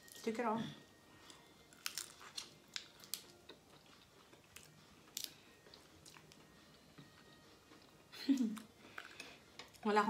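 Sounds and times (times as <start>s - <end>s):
chewing shrimp: 1.2s - 9.8s.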